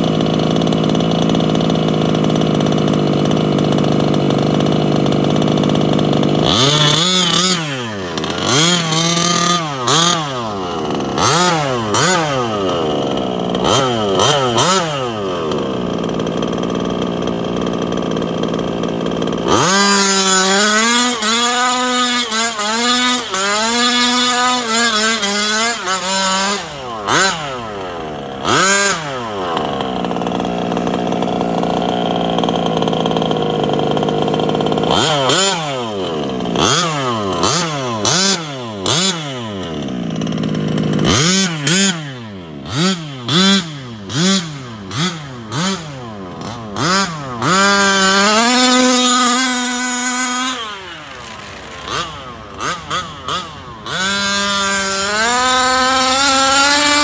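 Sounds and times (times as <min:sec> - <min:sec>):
rc truck engine revving: 0:00.0 - 0:57.0.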